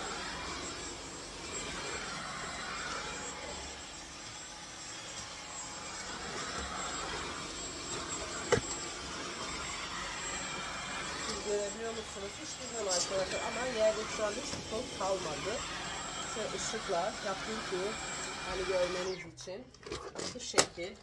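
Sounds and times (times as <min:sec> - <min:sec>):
cordless vacuum running: 0:00.0 - 0:19.3.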